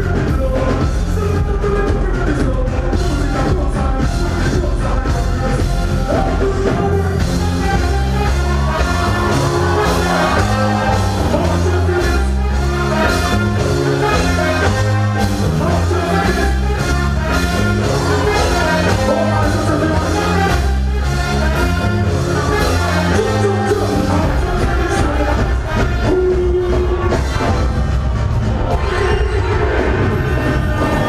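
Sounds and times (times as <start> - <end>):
heavy bass line: 0.0 - 31.0
live reggae band playing: 0.0 - 31.0
steady drum beat: 0.0 - 31.0.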